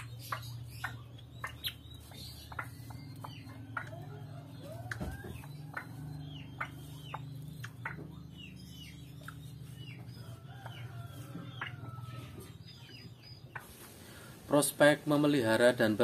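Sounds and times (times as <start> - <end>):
fowl chirping and clucking: 0.0 - 16.0.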